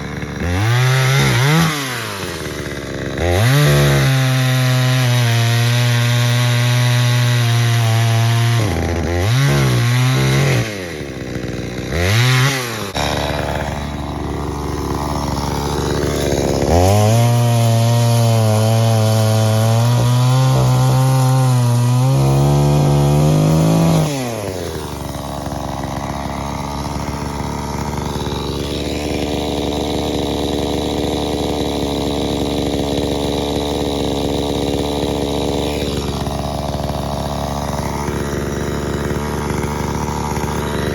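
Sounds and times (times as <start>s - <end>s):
chainsaw engine running: 0.0s - 40.9s.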